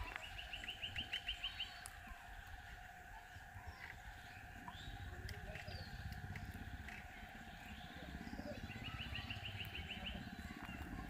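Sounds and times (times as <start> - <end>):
faint bird chirps: 0.0 - 11.0
steady outdoor background drone: 0.0 - 11.0.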